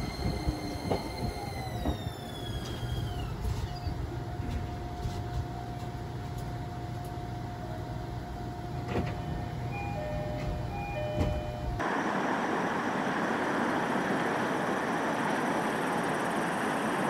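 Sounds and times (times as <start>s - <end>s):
railcar motor whine: 0.0s - 17.0s.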